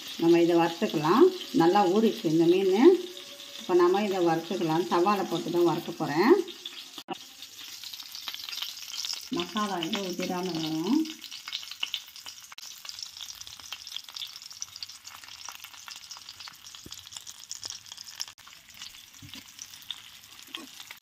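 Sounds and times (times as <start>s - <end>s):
fish sizzling in oil: 0.0s - 21.0s.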